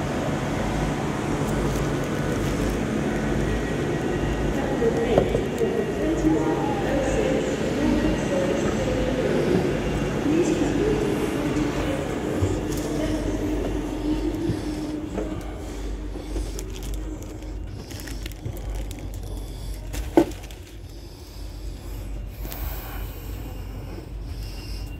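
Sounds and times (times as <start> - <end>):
train carriage rumble: 0.0 - 24.9.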